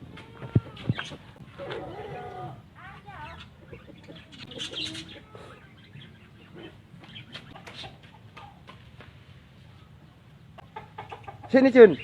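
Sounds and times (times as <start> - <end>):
birds calling and clucking: 0.0 - 12.0.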